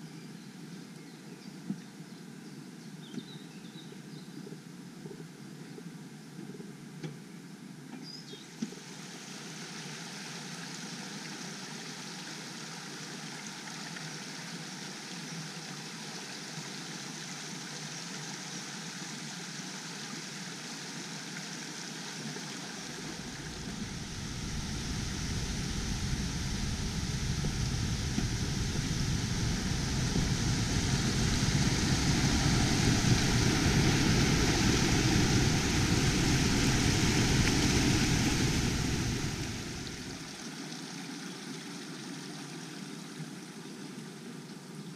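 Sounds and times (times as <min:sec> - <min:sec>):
forest stream rushing: 0:08.7 - 0:44.7.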